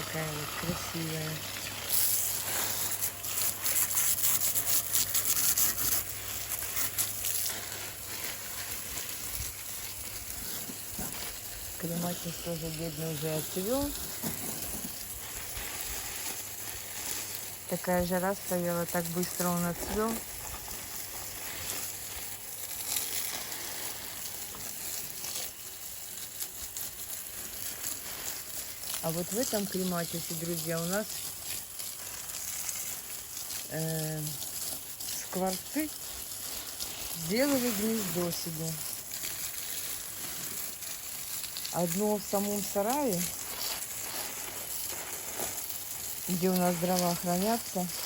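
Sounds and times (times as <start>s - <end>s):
faint water patters: 0.0s - 48.0s
garden hose spray hissing: 0.0s - 48.0s.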